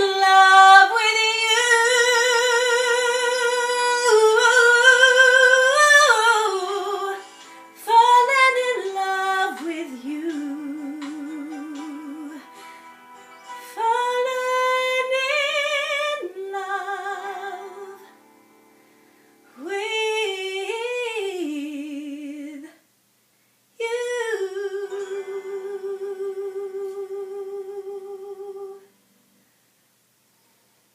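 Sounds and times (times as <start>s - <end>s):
woman singing a ballad: 0.0s - 12.8s, 13.6s - 18.2s, 19.5s - 22.8s, 23.8s - 28.9s
faint musical accompaniment: 0.0s - 22.8s, 23.9s - 30.9s.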